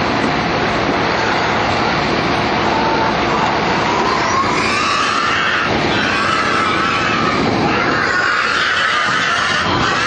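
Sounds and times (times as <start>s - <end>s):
loud rushing vehicle noise: 0.0s - 10.0s.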